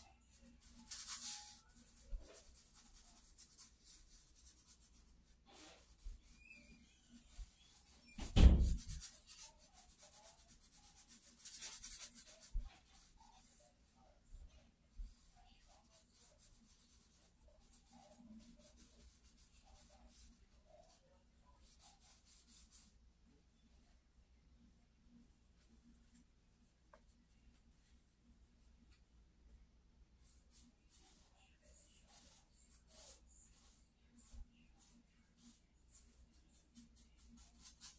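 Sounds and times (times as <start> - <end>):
charcoal scratching on paper: 0.0 - 22.9, 30.2 - 37.9.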